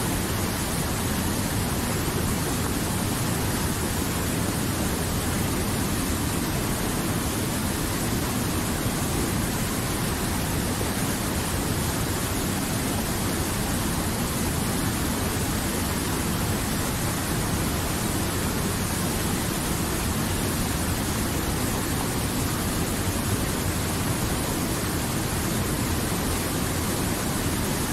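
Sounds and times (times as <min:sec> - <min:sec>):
river rushing over boulders: 0:00.0 - 0:27.9.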